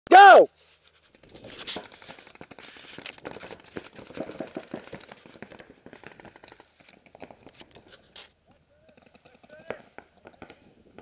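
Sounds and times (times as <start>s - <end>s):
paintball markers firing: 1.8s - 11.0s.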